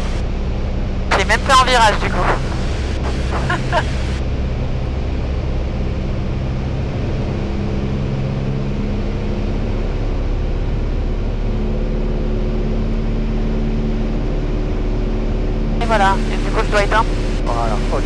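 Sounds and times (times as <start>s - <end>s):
airplane engine and propeller droning: 0.0s - 18.0s.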